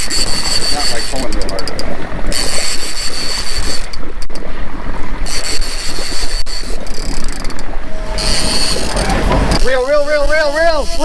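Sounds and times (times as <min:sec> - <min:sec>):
boat engine hum: 0:00.0 - 0:11.0
water rushing past hull: 0:00.0 - 0:11.0
wind buffeting microphone: 0:00.0 - 0:11.0.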